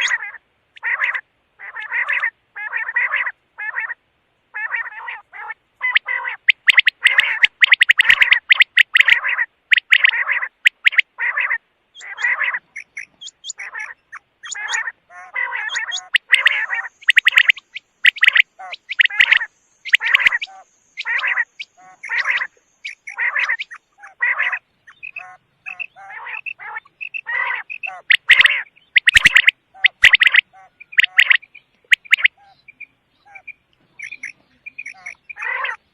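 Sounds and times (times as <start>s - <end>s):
quail calling: 0.0s - 35.9s.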